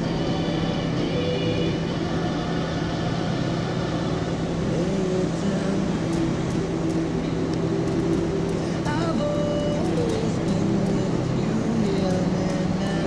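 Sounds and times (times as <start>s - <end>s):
car engine and road noise: 0.0s - 13.0s
constant low hum: 0.0s - 13.0s.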